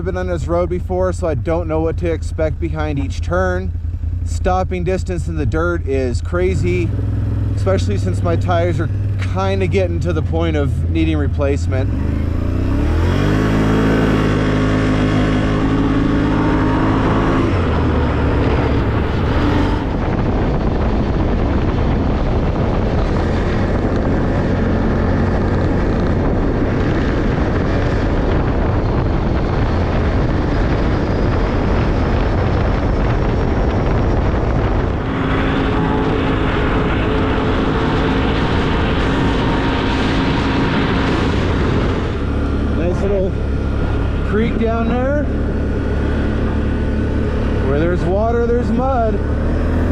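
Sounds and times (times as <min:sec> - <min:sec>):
tyres rumbling on gravel: 0:00.0 - 0:49.9
vehicle engine running: 0:00.0 - 0:49.9.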